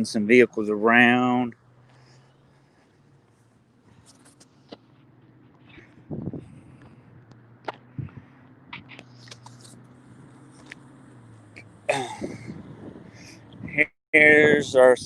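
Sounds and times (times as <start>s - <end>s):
car engine running at low revs: 0.0s - 14.6s.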